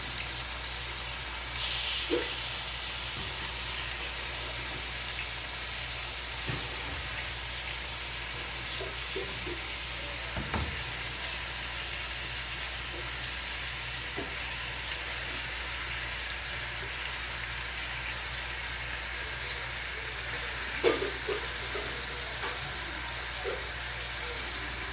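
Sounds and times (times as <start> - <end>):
meat sizzling in oil: 0.0 - 24.9.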